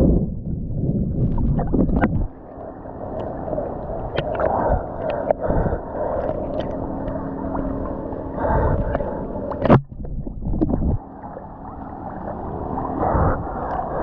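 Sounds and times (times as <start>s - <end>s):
low buffeting: 0.0s - 14.0s
water sloshing and splashing: 0.6s - 14.0s.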